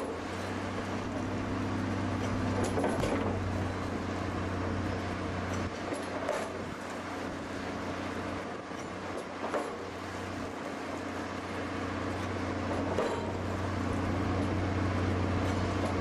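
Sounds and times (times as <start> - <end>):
heavy machine engine humming: 0.0 - 16.0.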